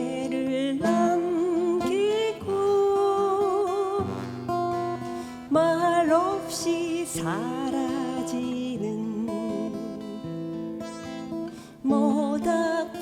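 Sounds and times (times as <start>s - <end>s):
acoustic guitars strumming: 0.0s - 13.0s
person singing with vibrato: 0.0s - 13.0s.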